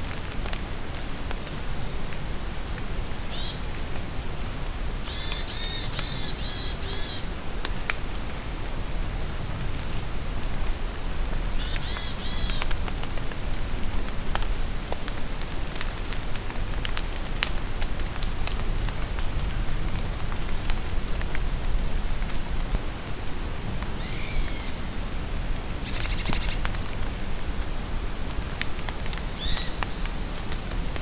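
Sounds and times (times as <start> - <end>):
rain falling in a forest: 0.0 - 31.0.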